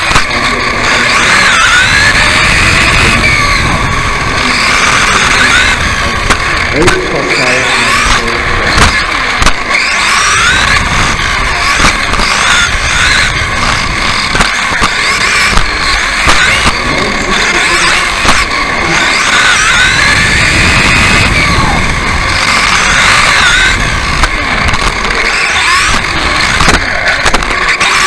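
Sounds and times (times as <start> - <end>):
electric motor and gear whine: 0.0 - 28.0.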